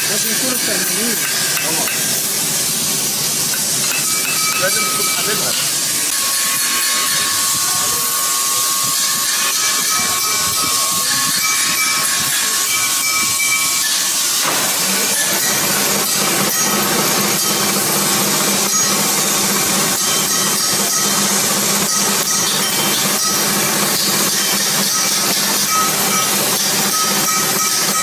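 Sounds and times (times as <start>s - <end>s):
cutting tool scraping metal: 0.0s - 28.0s
loud steady hiss: 0.0s - 28.0s
metal lathe humming: 0.0s - 28.0s.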